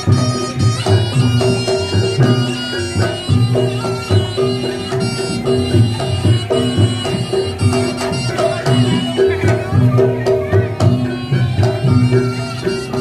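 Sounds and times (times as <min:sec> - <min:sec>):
low drum beats: 0:00.0 - 0:13.0
shawm playing a melody: 0:00.0 - 0:13.0.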